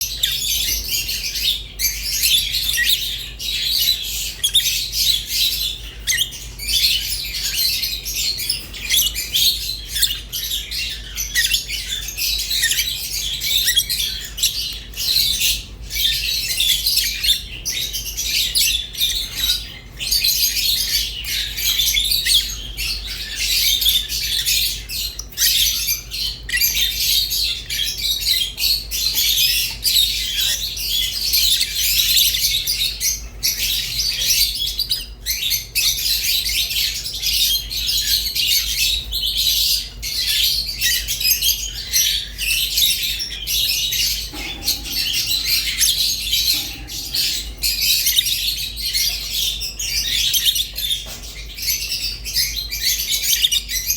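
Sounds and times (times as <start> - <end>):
lovebirds chirping and squawking: 0.0 - 53.9.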